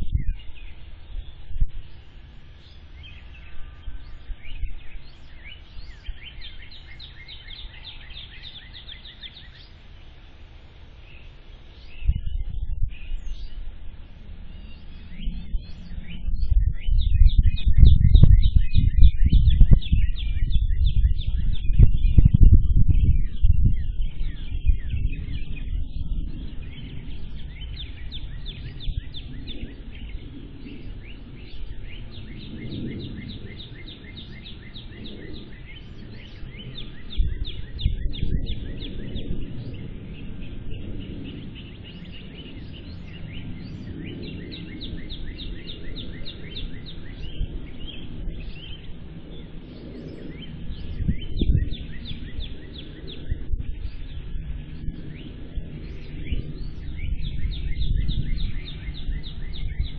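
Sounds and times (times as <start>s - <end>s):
birds chirping: 0.0s - 59.9s
wind rumble on microphone: 0.0s - 59.9s.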